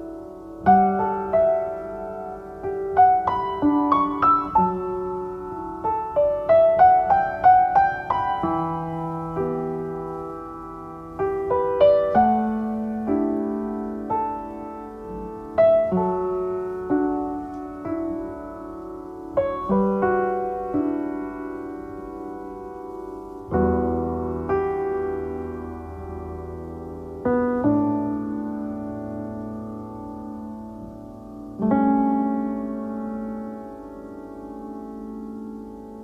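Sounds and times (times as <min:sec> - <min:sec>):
slow gentle piano music: 0:00.0 - 0:36.0.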